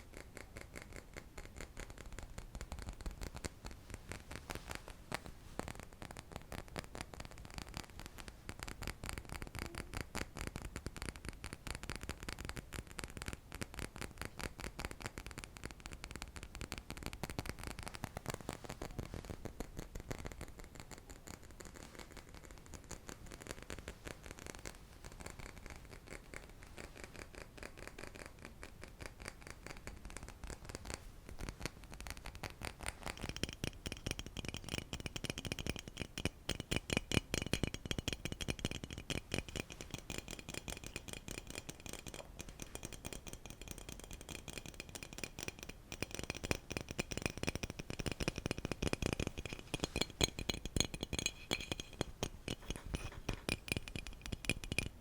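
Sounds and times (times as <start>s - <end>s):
fast light tapping: 0.0s - 55.0s.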